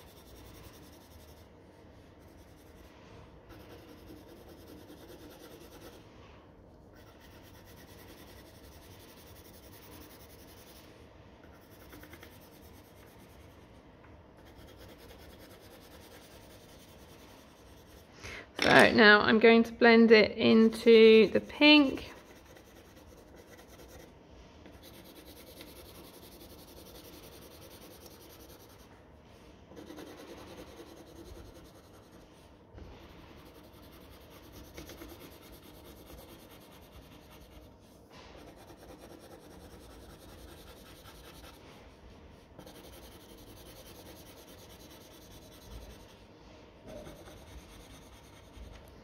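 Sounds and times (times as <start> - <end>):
pencil scratching on paper: 0.0 - 18.1, 21.3 - 49.0.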